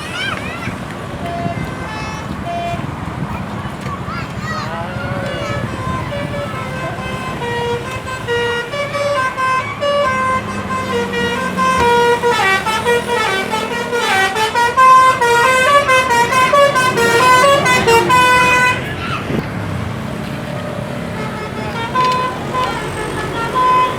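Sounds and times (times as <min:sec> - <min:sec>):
bus multi-tone horn tune: 0:00.0 - 0:03.6, 0:04.6 - 0:23.9.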